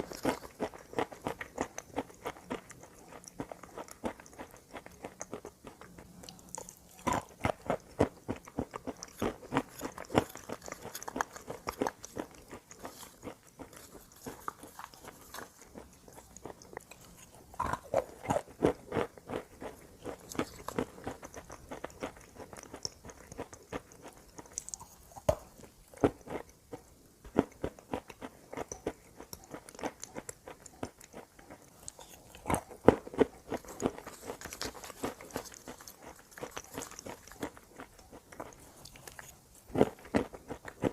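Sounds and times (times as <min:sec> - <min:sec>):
crunchy chewing of chalk: 0:00.0 - 0:40.9.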